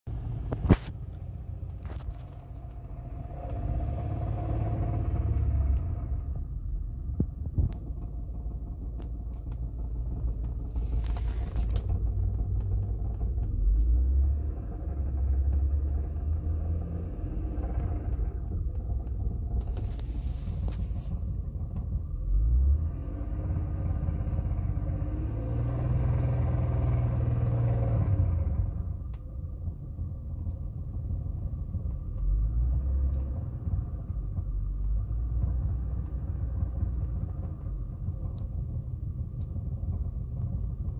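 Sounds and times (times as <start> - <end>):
car engine idling and revving: 0.0 - 40.9
engine rattling and clicking: 0.1 - 40.9.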